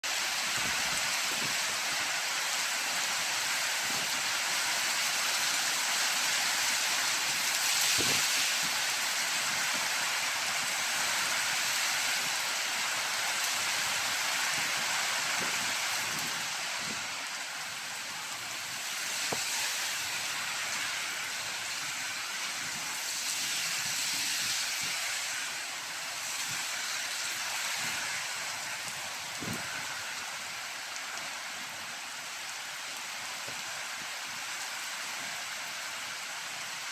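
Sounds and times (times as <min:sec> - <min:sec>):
heavy rain: 0:00.0 - 0:36.9
gusting wind: 0:00.1 - 0:31.9.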